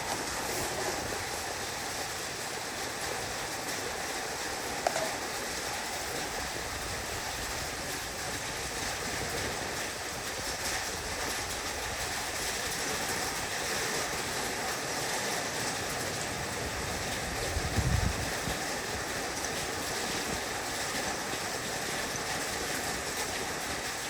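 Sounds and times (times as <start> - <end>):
heavy rain on a roof: 0.0 - 24.0.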